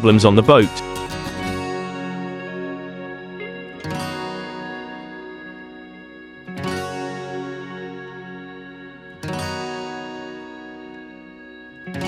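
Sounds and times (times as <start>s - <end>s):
plucked string chords: 0.0s - 12.0s.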